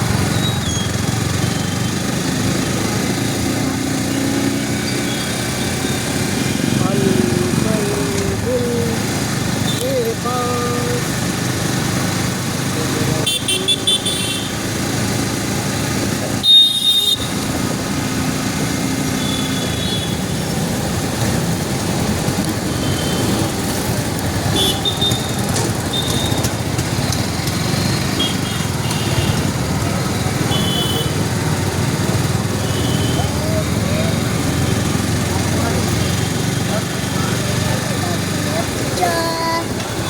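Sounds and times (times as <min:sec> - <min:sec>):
motor vehicle noise: 0:00.0 - 0:40.0.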